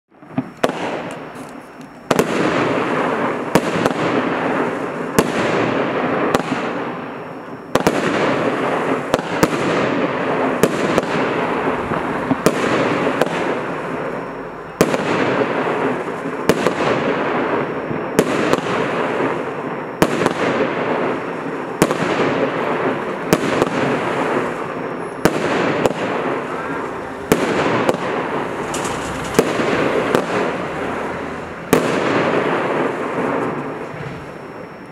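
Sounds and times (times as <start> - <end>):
crackling hiss of fireworks: 0.1 - 34.9
firework reports: 0.1 - 34.9.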